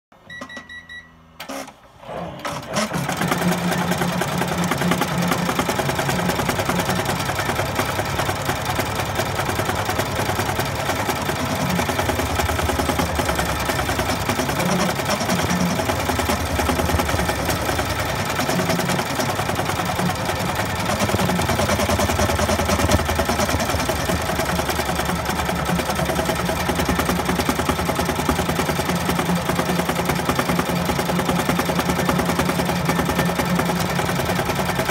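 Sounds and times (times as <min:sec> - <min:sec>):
embroidery machine stitching: 0:01.4 - 0:34.9.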